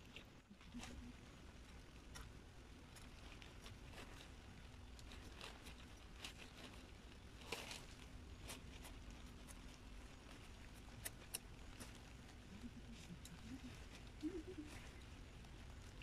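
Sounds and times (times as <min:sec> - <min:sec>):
rain jacket crinkling: 0:02.8 - 0:16.0.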